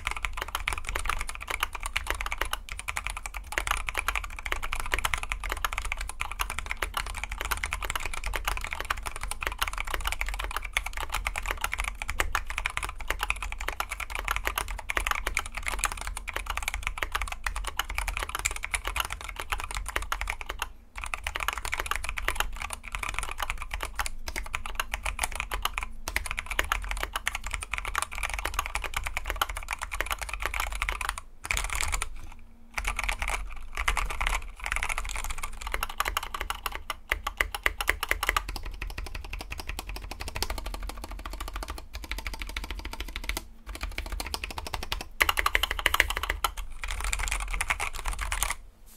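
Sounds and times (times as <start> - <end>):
fast typing on mechanical keyboard: 0.0 - 48.6.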